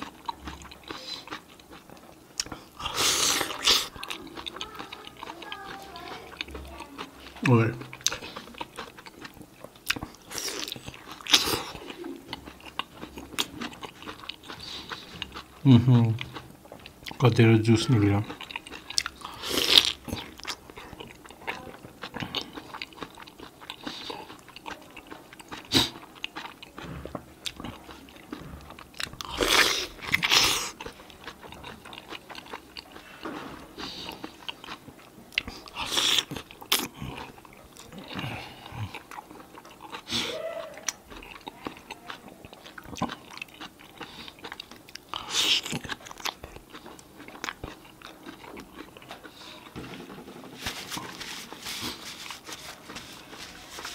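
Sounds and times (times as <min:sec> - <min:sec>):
wet bites and chewing: 0:00.0 - 0:17.2, 0:18.2 - 0:49.8.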